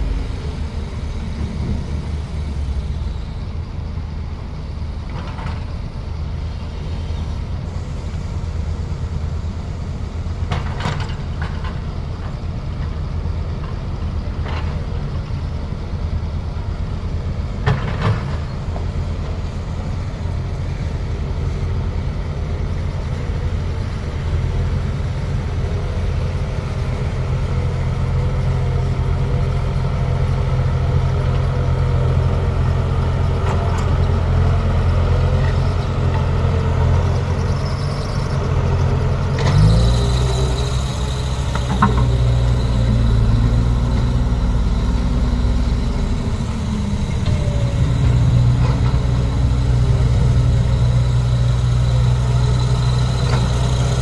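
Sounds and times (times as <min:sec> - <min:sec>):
road roller diesel engine drone: 0:00.0 - 0:54.0.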